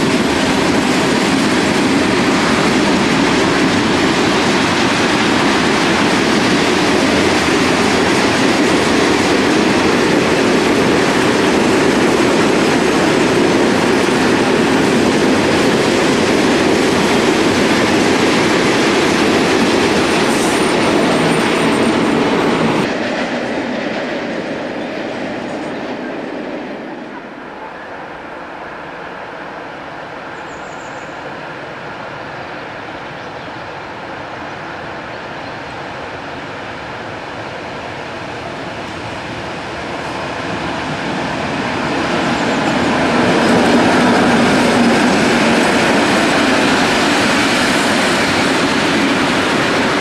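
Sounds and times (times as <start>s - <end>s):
freight train wheels rumbling: 0.0s - 50.0s.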